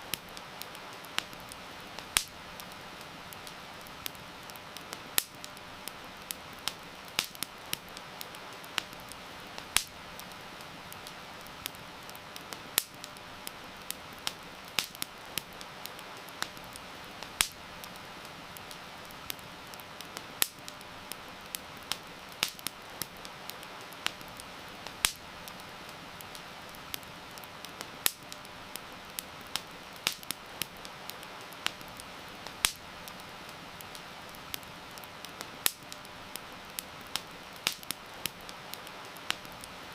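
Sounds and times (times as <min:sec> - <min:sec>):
campfire crackling and popping: 0:00.0 - 0:39.9
heavy rain hiss: 0:00.0 - 0:39.9.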